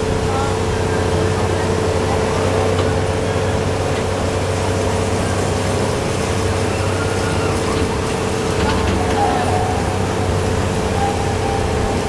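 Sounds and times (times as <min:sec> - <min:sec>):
miniature train engine running: 0:00.0 - 0:12.0.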